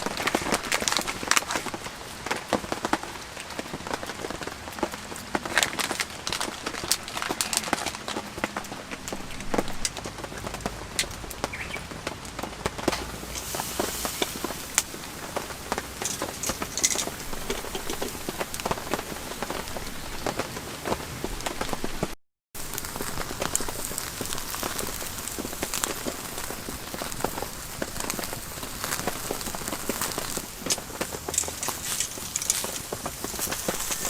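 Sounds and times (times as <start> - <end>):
heavy rain on tent canvas: 0.0 - 34.0.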